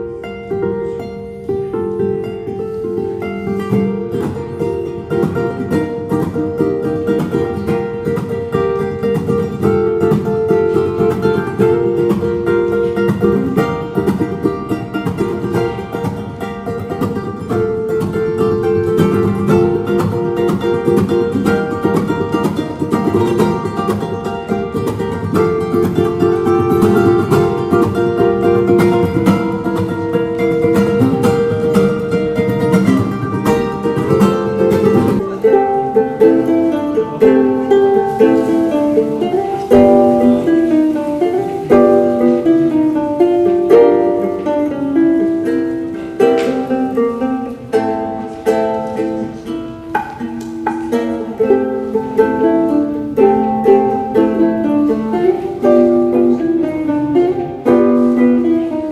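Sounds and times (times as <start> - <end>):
plucked string instrument music: 0.0 - 58.9.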